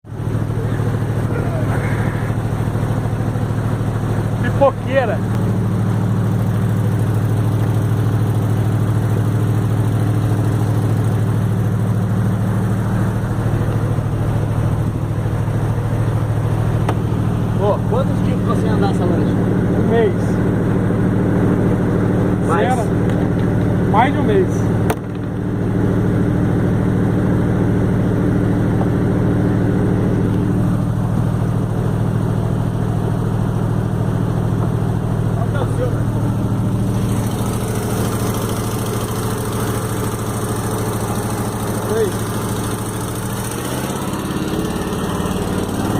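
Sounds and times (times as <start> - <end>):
boat engine idling: 0.1 - 45.9.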